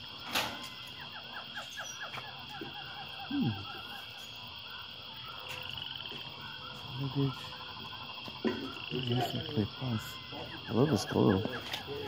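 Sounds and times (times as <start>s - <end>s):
low falling animal call: 0.8s - 12.0s.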